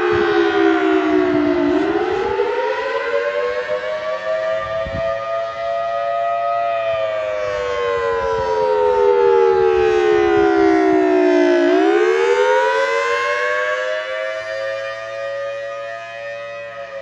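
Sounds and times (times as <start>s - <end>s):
two-tone tornado siren: 0.0s - 17.0s.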